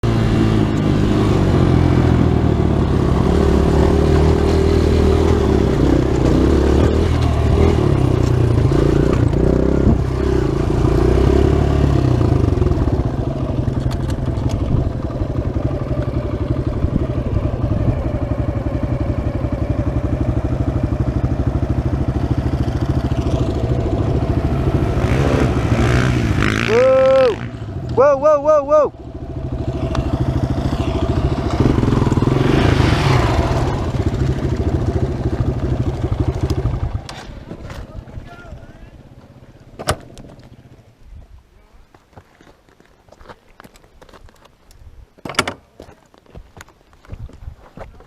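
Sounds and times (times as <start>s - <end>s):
dirt bike engine running: 0.0s - 39.6s.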